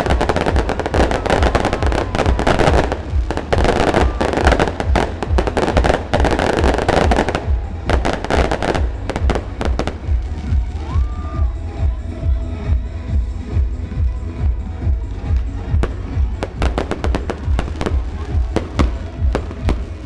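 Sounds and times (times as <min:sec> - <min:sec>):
fireworks bangs and crackling: 0:00.0 - 0:12.0, 0:12.6 - 0:20.0.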